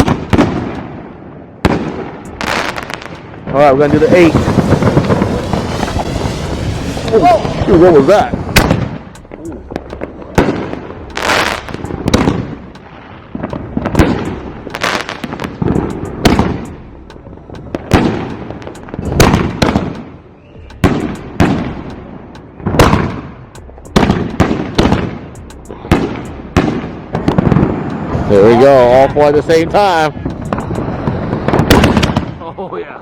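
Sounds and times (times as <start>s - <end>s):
fireworks banging: 0.0s - 32.5s.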